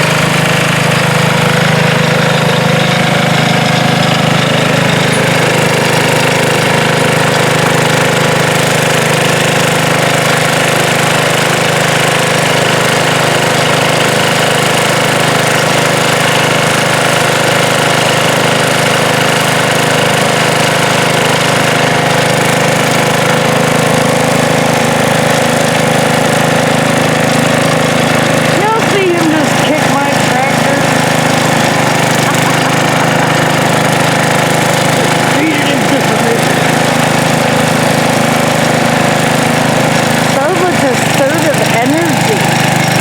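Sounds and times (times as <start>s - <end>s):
garden tractor engine running: 0.0s - 43.0s.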